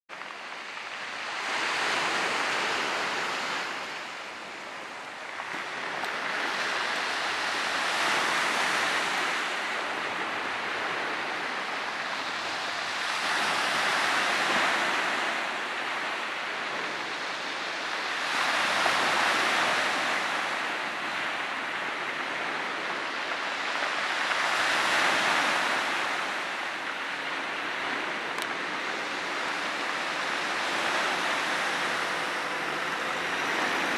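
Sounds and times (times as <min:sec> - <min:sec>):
surf breaking on stony shore: 0:00.3 - 0:33.9.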